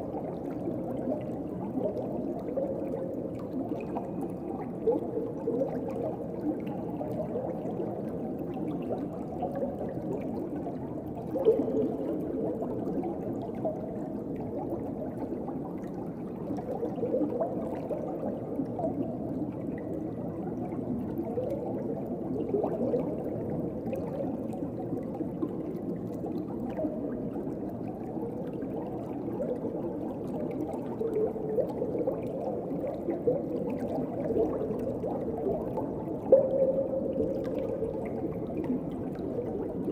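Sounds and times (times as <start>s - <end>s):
underwater rush and gurgle: 0.0s - 39.9s.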